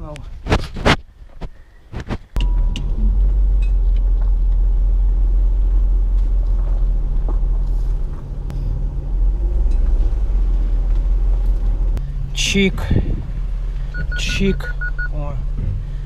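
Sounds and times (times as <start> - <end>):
car engine running: 2.4 - 16.0.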